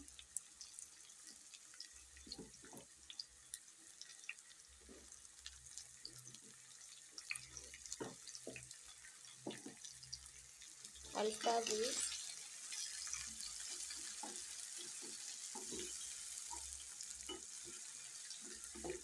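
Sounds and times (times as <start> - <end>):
small crackles and pops: 0.0 - 19.0
vegetables sizzling in oil: 0.0 - 19.0.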